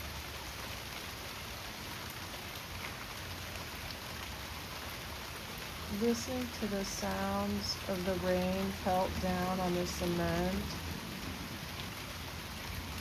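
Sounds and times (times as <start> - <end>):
rain pattering on cement: 0.0 - 13.0.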